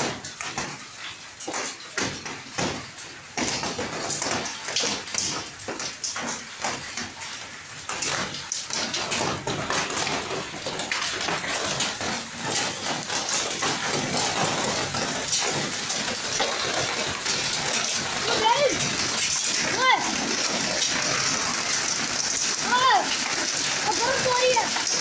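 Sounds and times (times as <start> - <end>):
hail and heavy rain pelting: 0.0 - 25.0.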